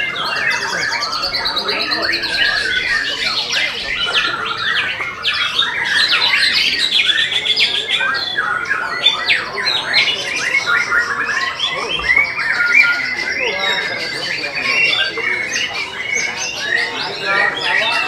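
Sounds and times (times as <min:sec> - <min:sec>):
bird singing whistles and trills: 0:00.0 - 0:18.0.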